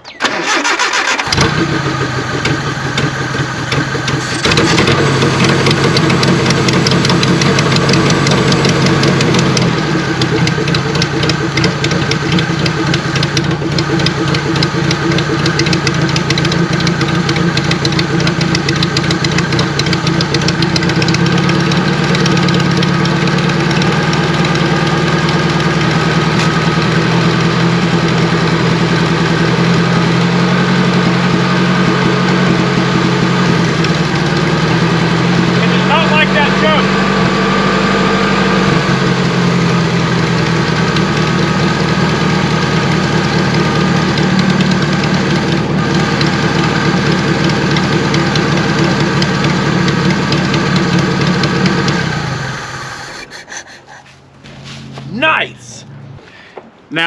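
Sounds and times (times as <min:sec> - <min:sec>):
engine running roughly: 0:00.0 - 0:56.7
engine cranking and catching: 0:00.0 - 0:56.8.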